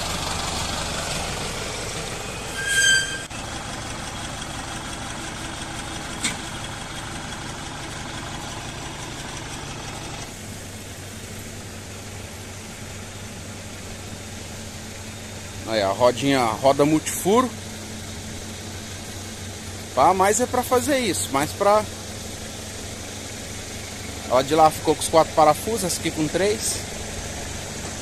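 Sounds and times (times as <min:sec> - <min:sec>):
brakes squealing: 0:00.0 - 0:28.0
truck diesel engine running: 0:00.0 - 0:28.0.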